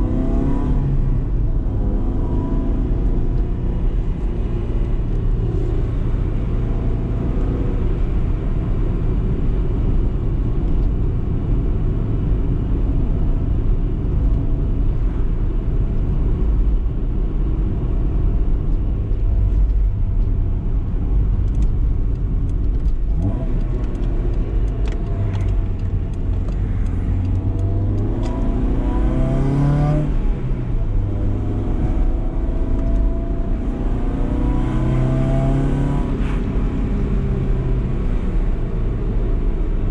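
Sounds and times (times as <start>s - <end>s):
car engine driving: 0.0s - 39.9s
road rumble: 0.0s - 39.9s.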